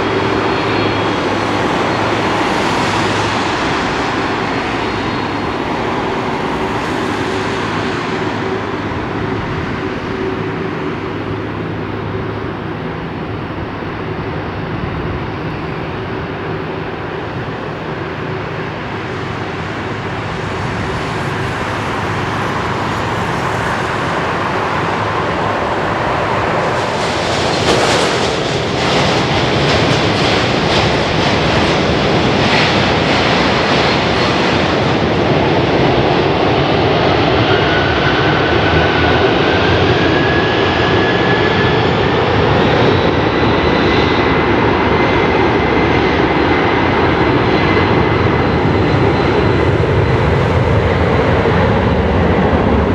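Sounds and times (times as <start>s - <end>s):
crackling jet noise: 0.0s - 52.9s
jet engines running: 0.0s - 52.9s
rising engine whine: 0.0s - 52.9s.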